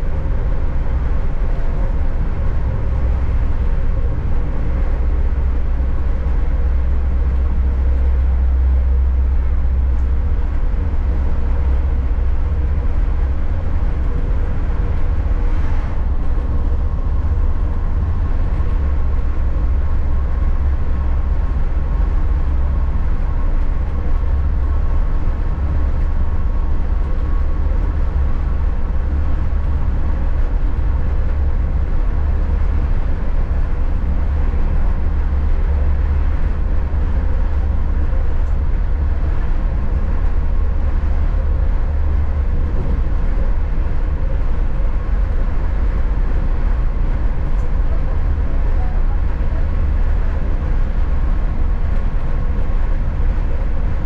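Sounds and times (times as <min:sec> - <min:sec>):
faint constant hum: 0:00.0 - 0:54.0
train rumbling: 0:00.0 - 0:54.0.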